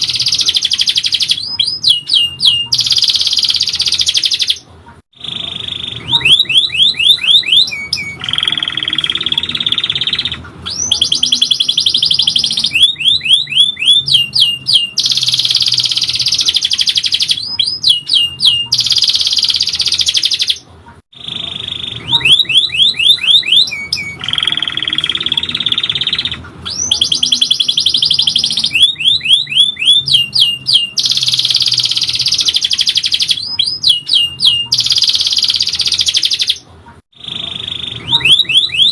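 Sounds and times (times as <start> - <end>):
canary singing trills: 0.0 - 36.6, 37.2 - 38.9.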